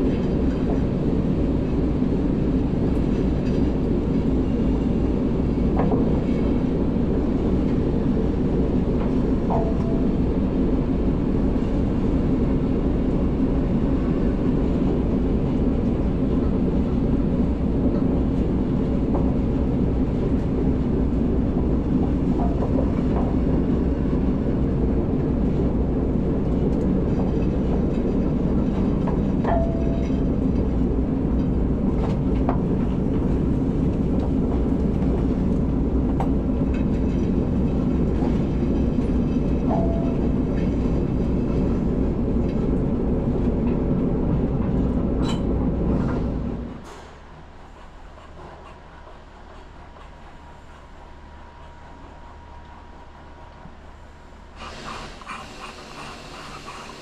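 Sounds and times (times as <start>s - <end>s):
steam locomotive rumbling: 0.0s - 57.0s.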